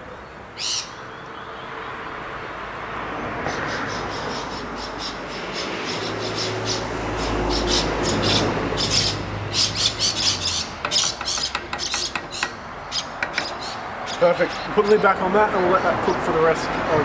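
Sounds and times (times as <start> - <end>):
birds squawking: 0.0 - 1.4, 3.4 - 17.0.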